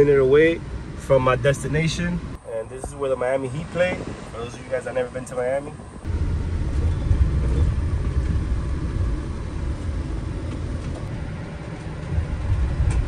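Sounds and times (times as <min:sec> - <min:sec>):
van rumbling on road: 0:00.0 - 0:13.0.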